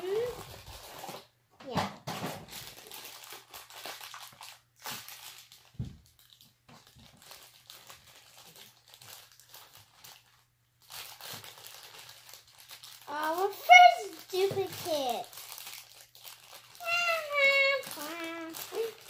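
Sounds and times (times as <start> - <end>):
foil bag crinkling and tearing: 0.0 - 1.3, 2.2 - 19.0.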